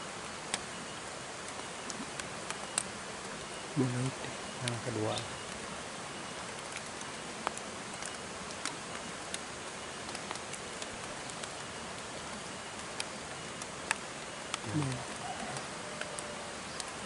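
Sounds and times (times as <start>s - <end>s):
rain hissing: 0.0s - 17.0s
raindrops ticking: 0.2s - 17.0s.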